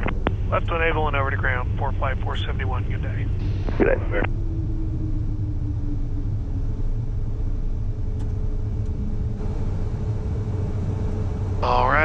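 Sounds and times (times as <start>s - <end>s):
faint steady hum: 0.0s - 12.0s
low cockpit rumble: 0.0s - 12.0s.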